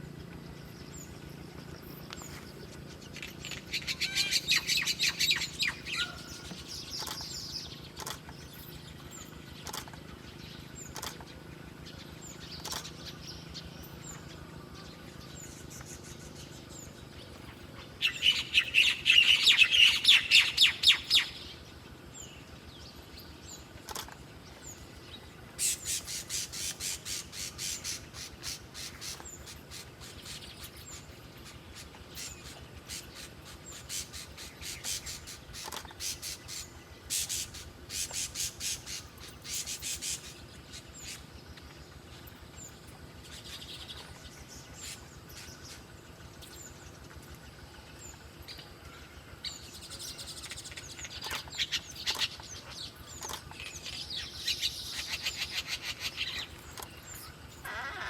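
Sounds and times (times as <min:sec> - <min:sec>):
songbirds chattering: 0:00.0 - 0:58.0
bird chirps: 0:00.1 - 0:58.0.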